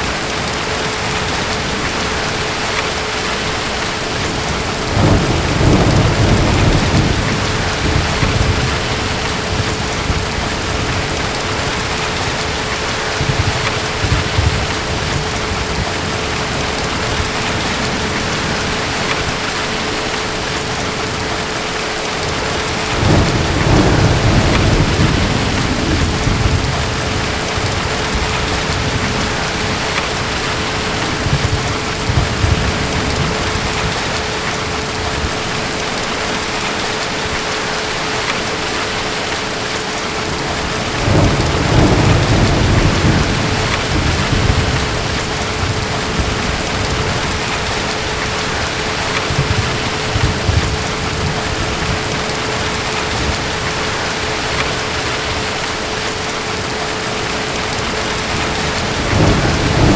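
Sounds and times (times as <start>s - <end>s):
distant thunder rumbling: 0.0s - 36.6s, 40.2s - 59.9s
heavy rain: 0.0s - 59.9s.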